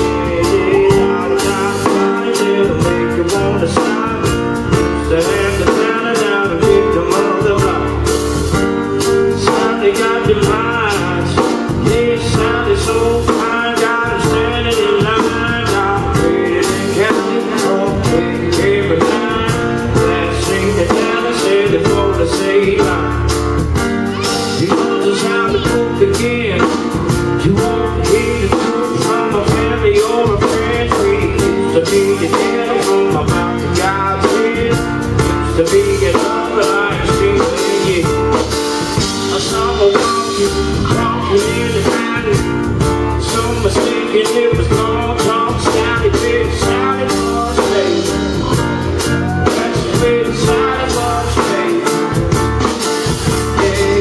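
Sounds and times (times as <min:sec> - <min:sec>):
drum kit beat: 0:00.0 - 0:54.0
guitar: 0:00.0 - 0:54.0
live band playing: 0:00.0 - 0:54.0
man singing: 0:00.0 - 0:54.0.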